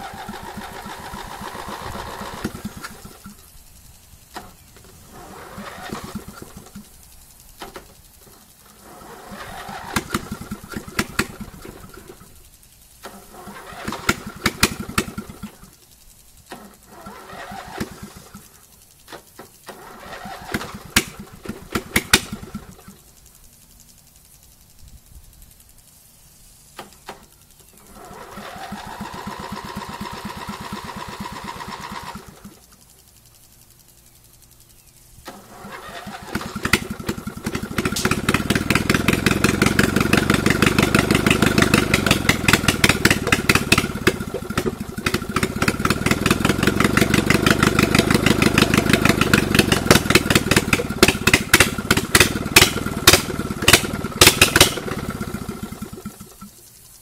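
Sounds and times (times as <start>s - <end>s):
small engine running rough: 0.0s - 24.6s, 26.8s - 56.9s
engine starter cranking: 0.0s - 57.0s.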